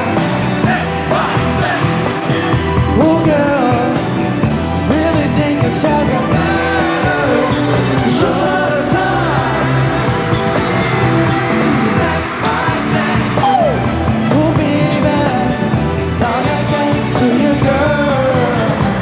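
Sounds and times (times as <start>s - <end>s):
live pop band playing: 0.0s - 19.0s
steady bass line: 0.0s - 19.0s
man singing: 2.9s - 19.0s.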